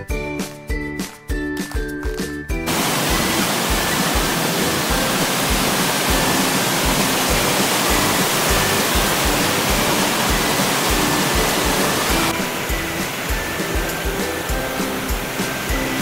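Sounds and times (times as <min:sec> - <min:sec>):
background music with steady beat: 0:00.0 - 0:16.0
whitewater rushing: 0:02.7 - 0:16.0.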